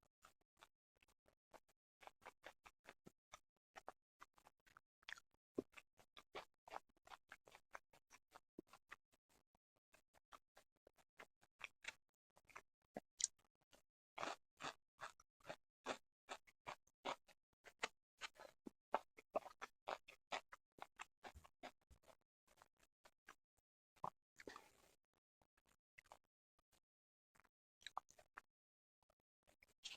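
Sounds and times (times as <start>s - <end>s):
wet chewing mouth clicks: 1.0s - 23.4s, 24.0s - 25.0s, 25.6s - 26.7s, 27.3s - 28.5s.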